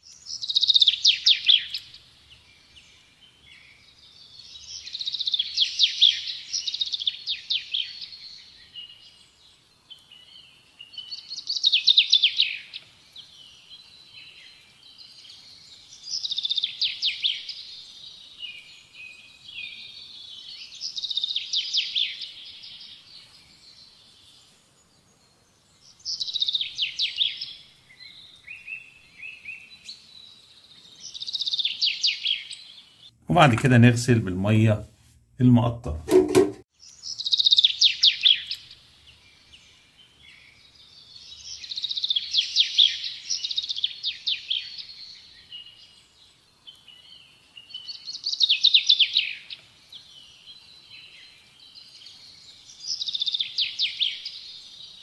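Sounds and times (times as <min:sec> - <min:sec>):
songbird chirps and trills: 0:00.0 - 0:34.8, 0:36.7 - 0:55.0.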